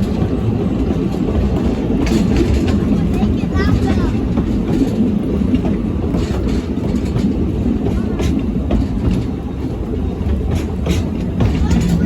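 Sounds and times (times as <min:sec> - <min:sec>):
train rumble: 0:00.0 - 0:12.0
wheel clicks over rail joints: 0:00.0 - 0:12.0.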